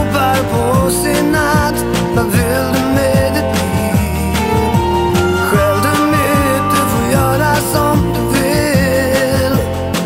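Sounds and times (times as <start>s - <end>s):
song with bass and steady beat: 0.0s - 10.0s.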